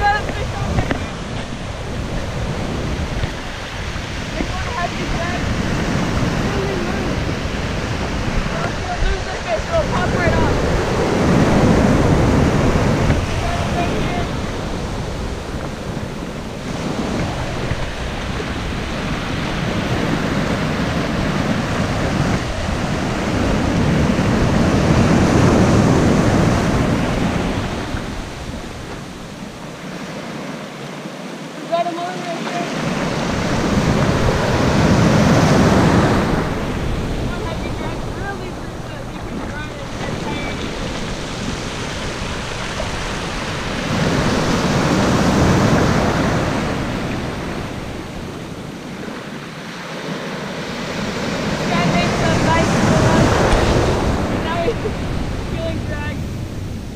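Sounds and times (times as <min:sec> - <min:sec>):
ocean surf breaking: 0:00.0 - 0:56.9.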